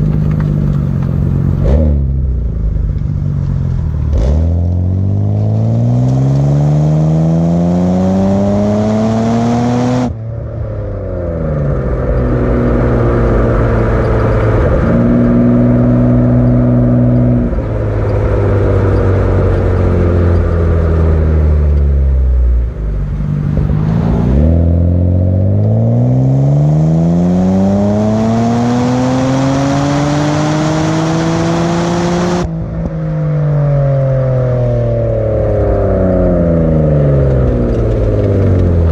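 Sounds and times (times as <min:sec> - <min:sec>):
car engine revving through exhaust: 0:00.0 - 0:10.3, 0:11.1 - 0:32.6.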